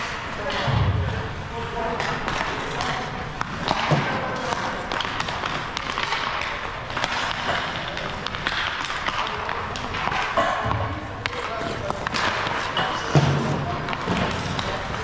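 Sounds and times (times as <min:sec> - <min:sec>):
ice rink noise: 0:00.0 - 0:15.0
pucks and sticks clacking: 0:00.0 - 0:15.0.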